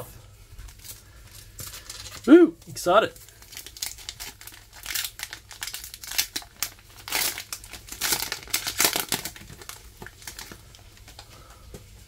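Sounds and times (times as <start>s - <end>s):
foil wrapper crinkling: 0.4s - 11.7s.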